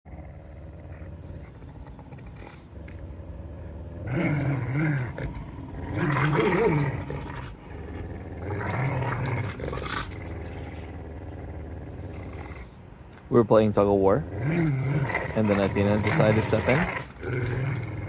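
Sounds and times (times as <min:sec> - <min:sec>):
dogs growling in play: 0:00.0 - 0:13.0, 0:13.8 - 0:18.0.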